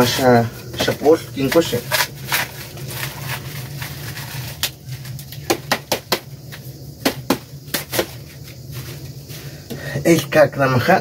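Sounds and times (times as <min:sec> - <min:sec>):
corn husks crackling and snapping: 0:00.0 - 0:09.1
steady low hum: 0:00.0 - 0:11.0.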